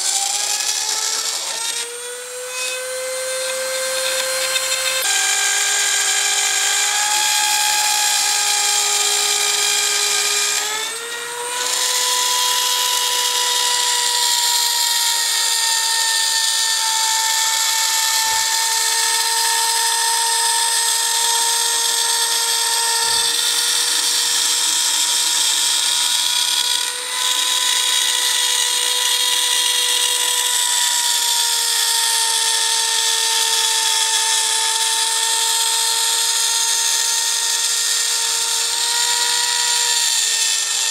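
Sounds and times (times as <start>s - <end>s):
rotary tool high-pitched whine: 0.0s - 40.9s.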